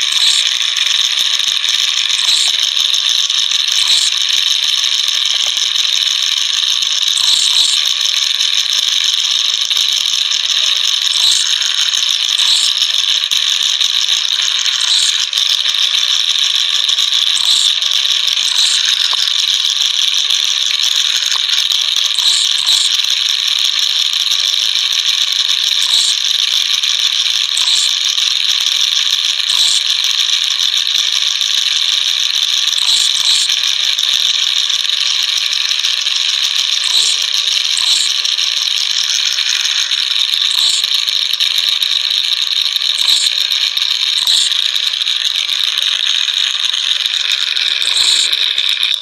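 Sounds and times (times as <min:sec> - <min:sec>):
loud mechanical rattling: 0:00.0 - 0:49.0
sharp clicks: 0:00.0 - 0:49.0.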